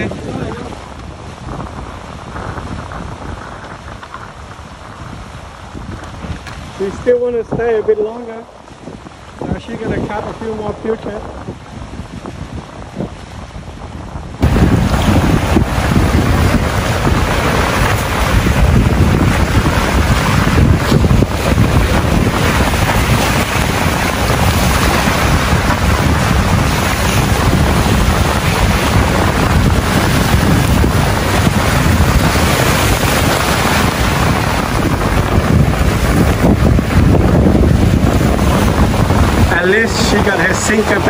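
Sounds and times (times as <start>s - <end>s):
waves breaking on rocks: 0.0s - 41.0s
wind buffeting microphone: 0.0s - 41.0s.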